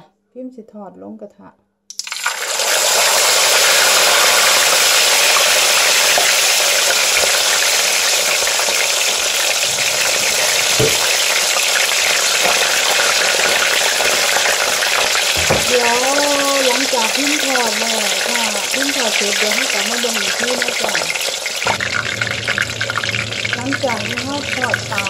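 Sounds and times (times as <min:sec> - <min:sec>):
fish sizzling in hot oil: 0:01.9 - 0:25.0.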